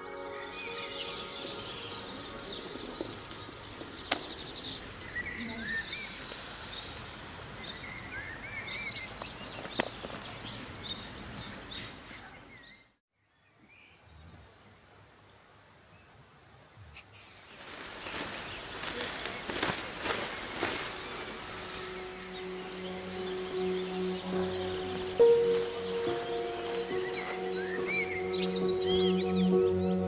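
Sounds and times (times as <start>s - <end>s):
birds chirping: 0.0s - 14.8s, 16.7s - 30.0s.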